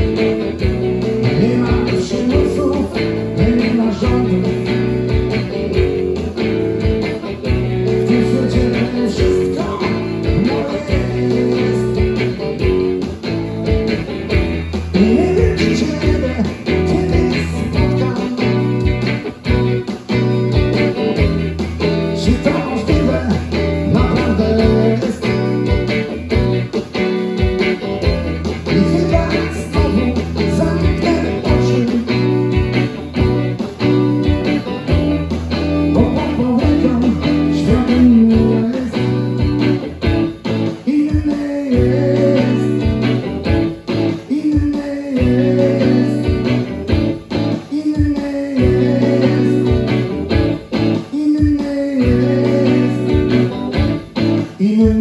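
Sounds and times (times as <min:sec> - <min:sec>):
electric guitars playing blues rock: 0:00.0 - 0:55.0.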